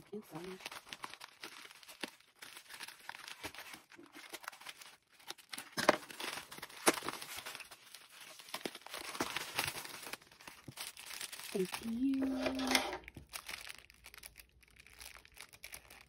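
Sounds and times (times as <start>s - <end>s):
plastic mailer crinkling and tearing: 0.0s - 16.0s.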